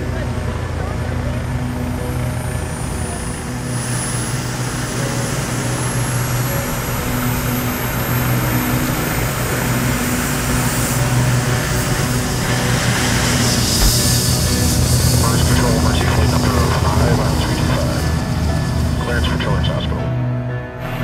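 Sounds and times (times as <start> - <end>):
helicopter turbine whine rising: 0.0 - 19.9
low rotor drone: 0.0 - 21.0.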